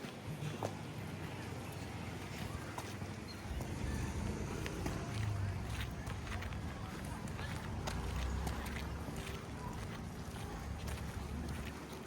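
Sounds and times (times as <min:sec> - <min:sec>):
faint footsteps: 0:00.0 - 0:12.0.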